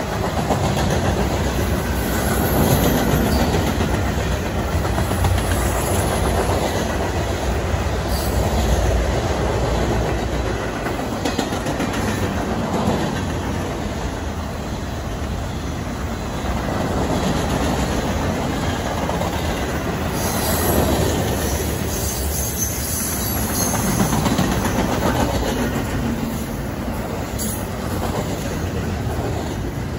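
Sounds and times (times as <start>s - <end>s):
train wheels running on rails: 0.0s - 29.9s.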